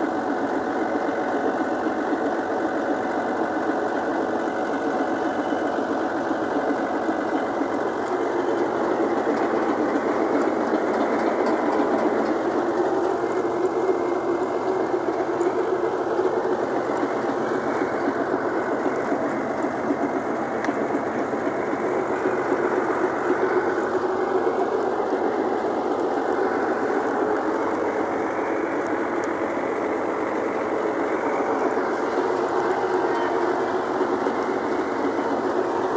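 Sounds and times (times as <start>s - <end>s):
tractor diesel engine chugging: 0.0s - 35.9s.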